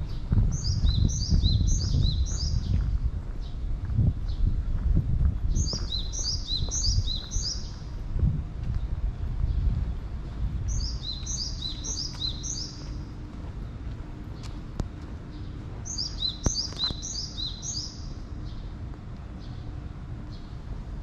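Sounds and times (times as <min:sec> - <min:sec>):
small birds chirping: 0:00.0 - 0:04.6, 0:05.5 - 0:08.0, 0:10.6 - 0:20.7
low background rumble: 0:00.0 - 0:21.0.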